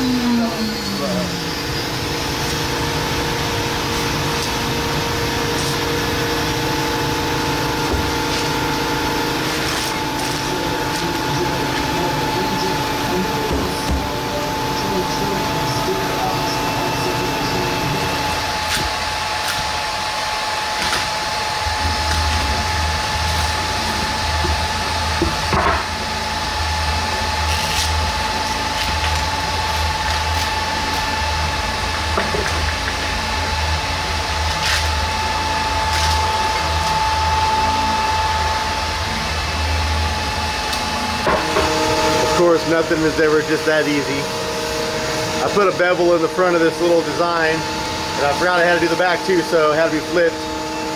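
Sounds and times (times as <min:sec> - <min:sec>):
blower motor whirring: 0:00.0 - 0:50.9
constant whine: 0:00.0 - 0:50.9
deeper hum: 0:00.0 - 0:50.9.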